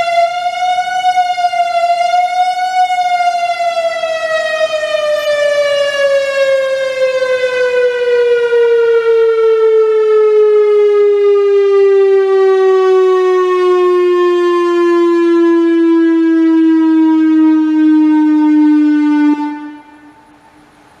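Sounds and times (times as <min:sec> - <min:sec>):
warning siren tone gliding down: 0:00.0 - 0:20.4.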